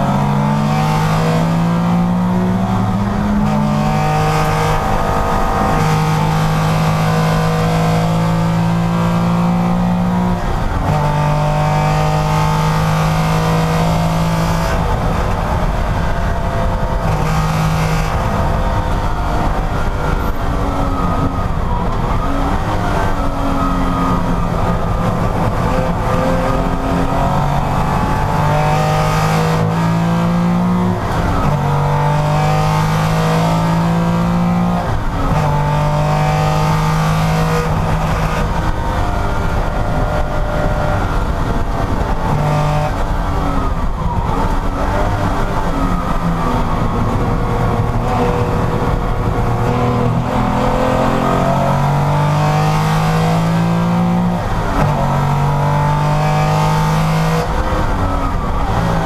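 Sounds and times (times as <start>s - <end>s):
racing car engine at high revs: 0.0s - 59.0s.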